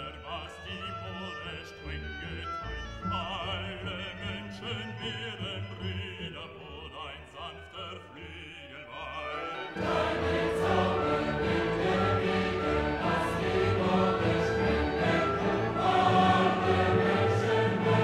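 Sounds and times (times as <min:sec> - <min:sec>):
choir and orchestra: 0:00.0 - 0:18.0
classical music: 0:00.0 - 0:18.0
operatic singing voice: 0:00.0 - 0:18.0.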